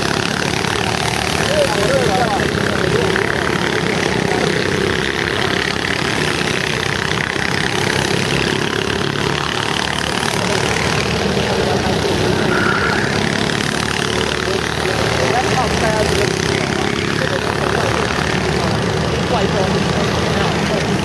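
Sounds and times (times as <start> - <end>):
go-kart engine running: 0.0 - 21.0.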